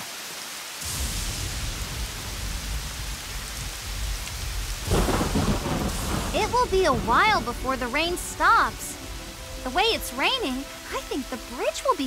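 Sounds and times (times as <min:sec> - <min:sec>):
heavy rain: 0:00.0 - 0:12.0
low rumble: 0:00.9 - 0:11.1.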